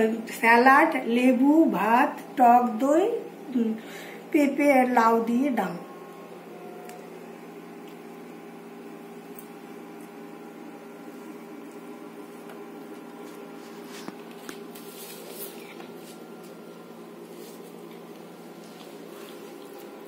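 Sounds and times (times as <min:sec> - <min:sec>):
steady room hum: 0:00.0 - 0:20.0.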